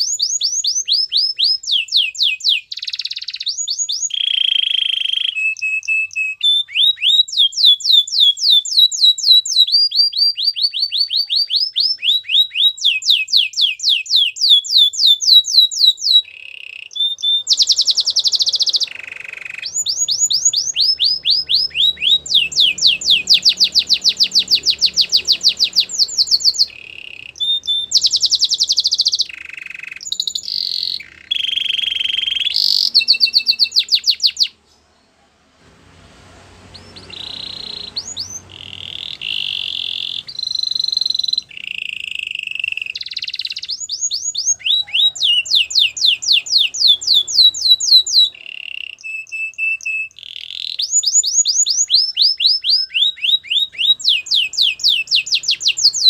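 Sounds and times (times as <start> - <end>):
canary singing trills: 0.0 - 35.2, 36.5 - 56.0.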